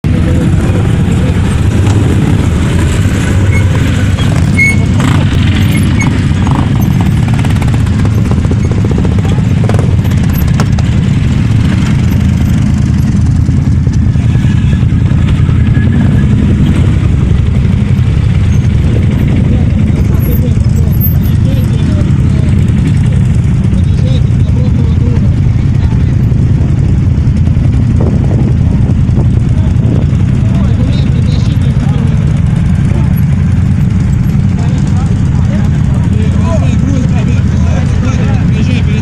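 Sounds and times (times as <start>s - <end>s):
quad bike engines running: 0.0s - 39.0s.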